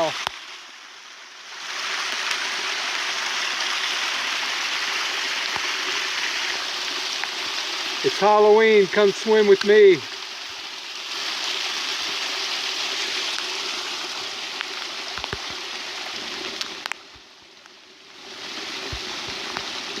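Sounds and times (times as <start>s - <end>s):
rainwater rushing down trail: 0.0s - 20.0s.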